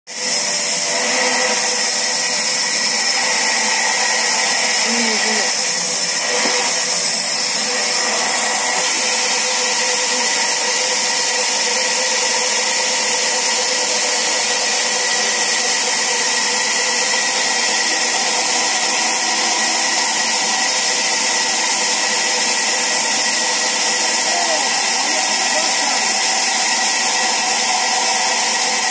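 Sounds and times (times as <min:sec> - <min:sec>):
sawmill saw running: 0:00.1 - 0:28.9.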